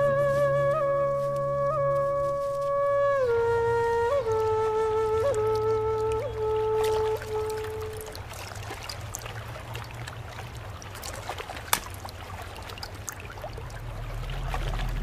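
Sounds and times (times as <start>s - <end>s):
low steady hum: 0.0s - 15.0s
water trickling and lapping: 0.0s - 15.0s.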